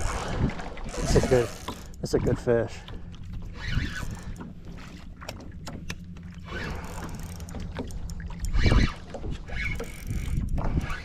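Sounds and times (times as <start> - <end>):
low wind rumble: 0.0 - 11.0
water against boat hull: 0.0 - 11.0.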